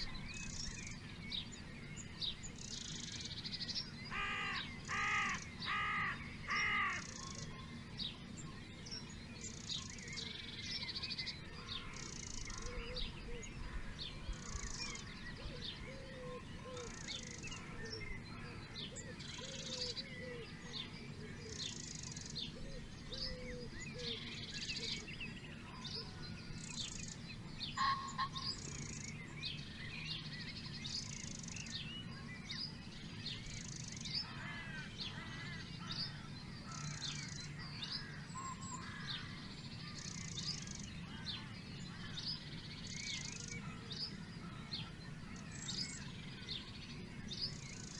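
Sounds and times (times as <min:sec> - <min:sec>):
songbirds singing: 0:00.0 - 0:47.9
lower repeated bird call: 0:02.4 - 0:07.8, 0:09.4 - 0:47.9.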